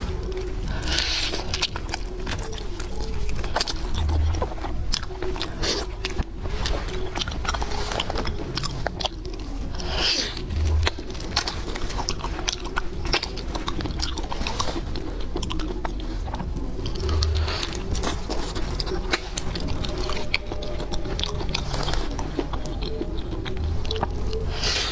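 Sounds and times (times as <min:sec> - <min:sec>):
chewing crunchy seafood: 0:00.0 - 0:24.9.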